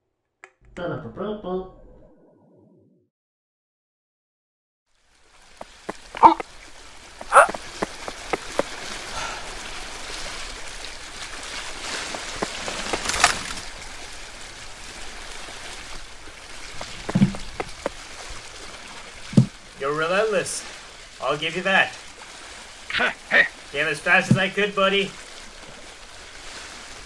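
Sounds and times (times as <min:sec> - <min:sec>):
rain-like background hiss: 0:04.9 - 0:27.0.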